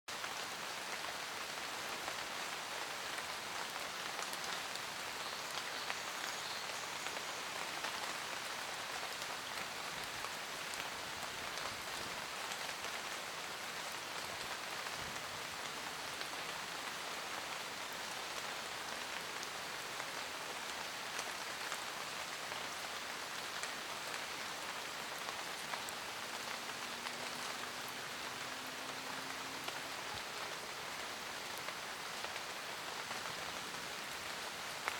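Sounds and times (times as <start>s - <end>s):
light rain on leaves: 0.1s - 34.9s.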